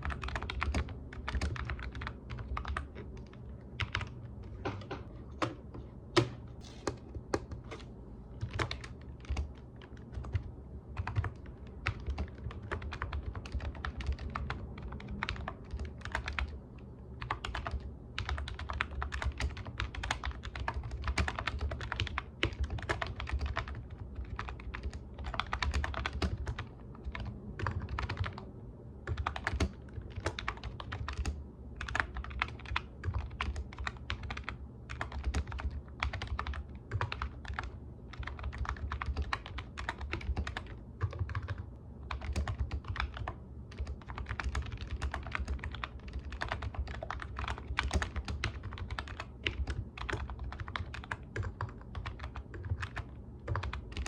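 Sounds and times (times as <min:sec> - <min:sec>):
computer keyboard typing: 0:00.0 - 0:07.8, 0:08.4 - 0:28.4, 0:29.0 - 0:54.0
low steady hum: 0:00.0 - 0:54.0.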